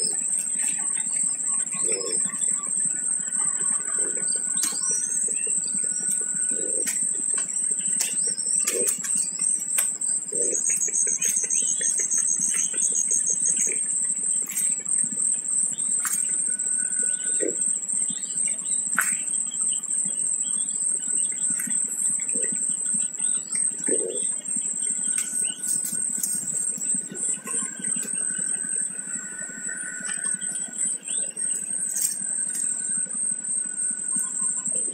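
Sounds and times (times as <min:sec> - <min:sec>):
faint bird chirps: 0:00.0 - 0:34.9
steady high-pitched whine: 0:00.0 - 0:34.9.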